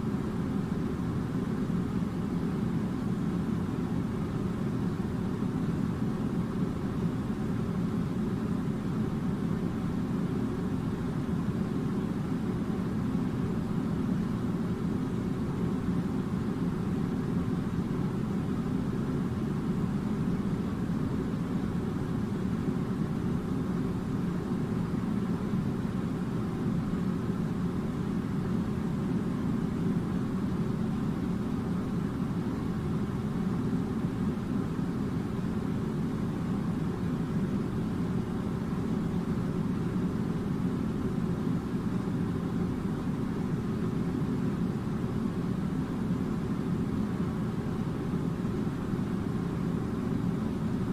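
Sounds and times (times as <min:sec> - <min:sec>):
air conditioning unit humming: 0:00.0 - 0:50.9.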